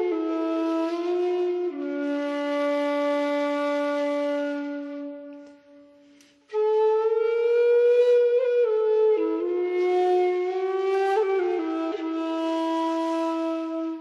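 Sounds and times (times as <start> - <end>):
slow flute-like melody: 0.0 - 14.0.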